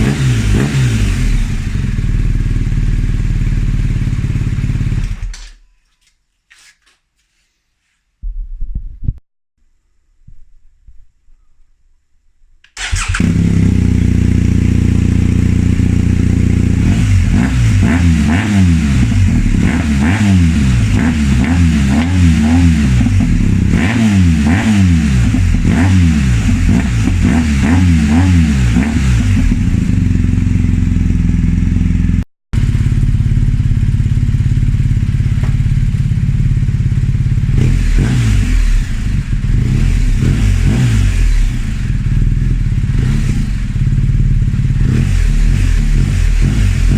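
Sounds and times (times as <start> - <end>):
motorcycle engine idling and revving: 0.0 - 5.4, 12.8 - 46.9.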